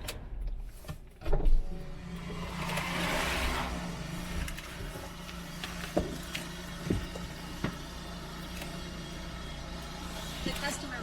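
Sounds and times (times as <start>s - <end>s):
car idling: 1.6s - 11.0s.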